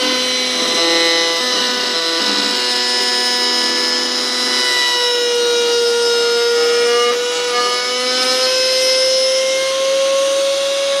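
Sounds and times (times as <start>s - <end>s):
router cutting wood: 0.0s - 11.0s.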